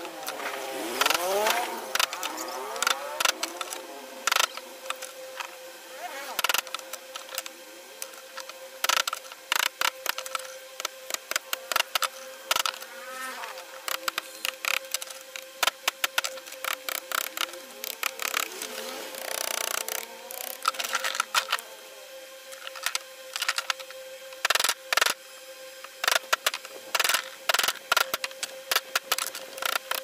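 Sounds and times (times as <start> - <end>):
steady buzzing hum: 0.0 - 30.0.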